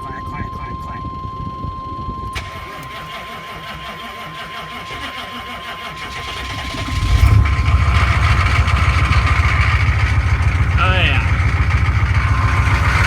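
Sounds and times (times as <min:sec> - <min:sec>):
diesel engine running: 0:00.0 - 0:13.0
starter motor cranking: 0:01.3 - 0:13.0.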